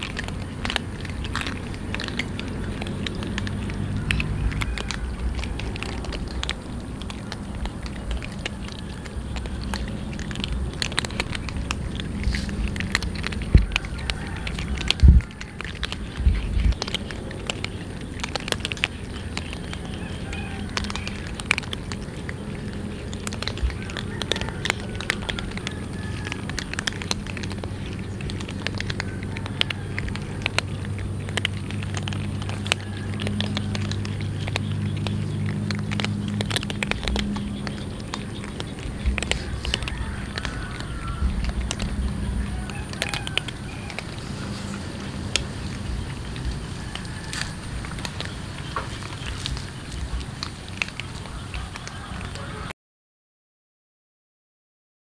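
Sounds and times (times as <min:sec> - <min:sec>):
low steady hum: 0:00.0 - 0:52.5
cats crunching dry kibble: 0:00.0 - 0:52.7.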